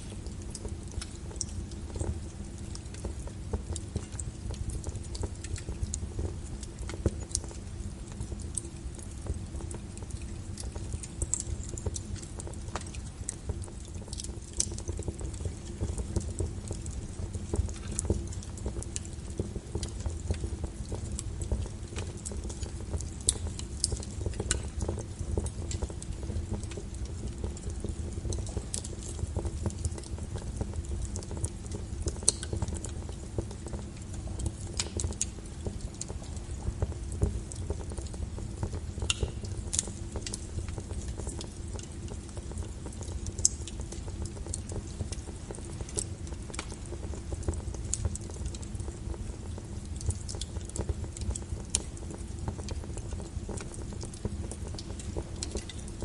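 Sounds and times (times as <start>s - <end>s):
fire low rumble: 0.0s - 56.0s
wood crackling and popping: 0.0s - 56.0s.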